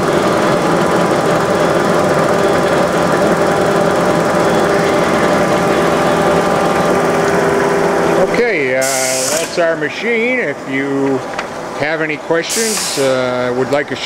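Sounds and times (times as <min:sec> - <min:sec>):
grinder machine humming: 0:00.0 - 0:14.0.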